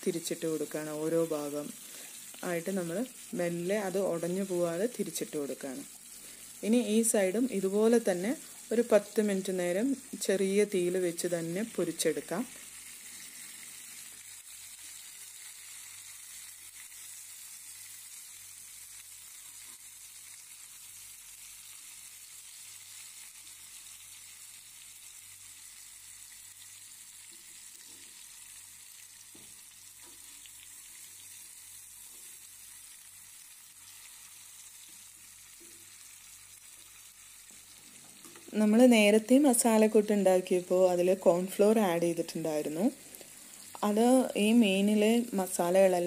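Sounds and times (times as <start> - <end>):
fish sizzling in oil: 0.0 - 46.0.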